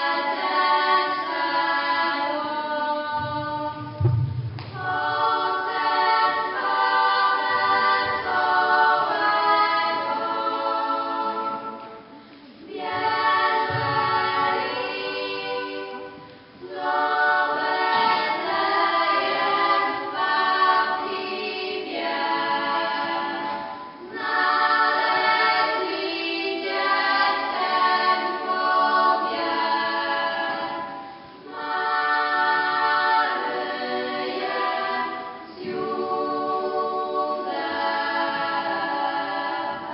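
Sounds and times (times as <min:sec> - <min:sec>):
girls singing a cappella: 0:00.0 - 0:39.9.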